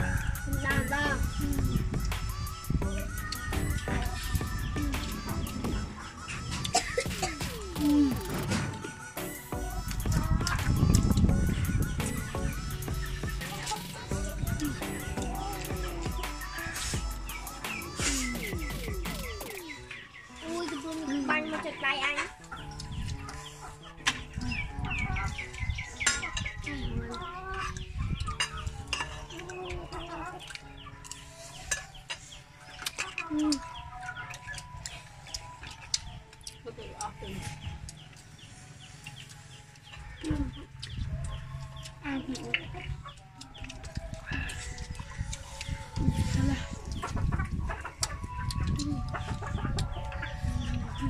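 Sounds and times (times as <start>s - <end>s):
chickens clucking: 0.0s - 51.0s
chicks peeping: 0.0s - 51.0s
close chewing: 0.0s - 51.0s.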